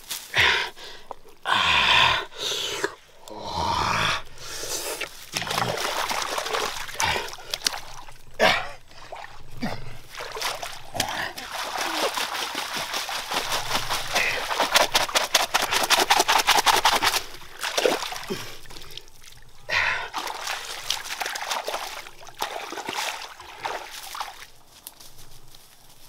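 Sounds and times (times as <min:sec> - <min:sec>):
splashing in muddy water: 0:03.6 - 0:25.4.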